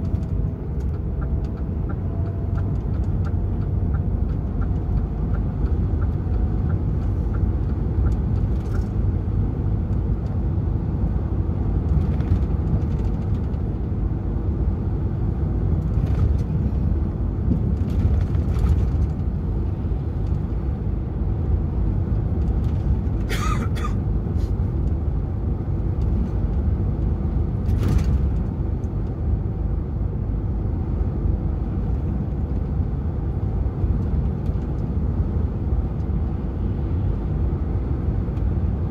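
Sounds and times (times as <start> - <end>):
truck diesel engine and road noise: 0.0 - 38.9.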